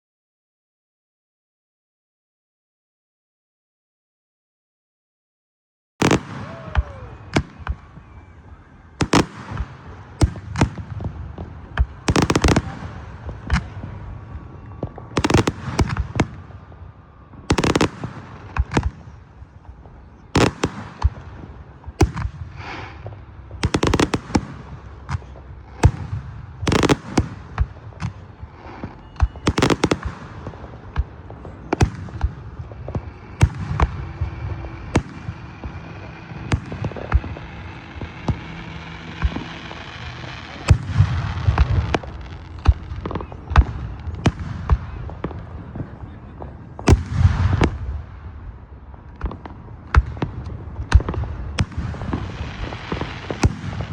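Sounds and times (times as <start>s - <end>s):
fireworks banging: 6.0s - 53.9s
fireworks crackling: 6.0s - 53.9s.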